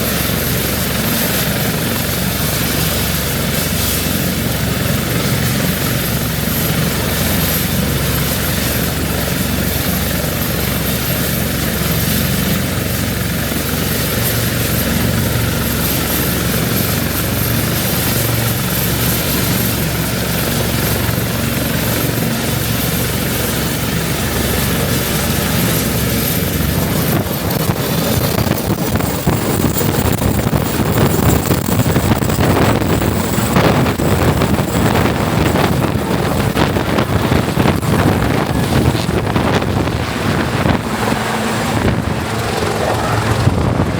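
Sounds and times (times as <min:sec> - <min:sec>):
helicopter engines and rotors: 0:00.0 - 0:43.9
high turbine whine: 0:00.0 - 0:43.9
wind buffeting microphone: 0:00.0 - 0:43.9.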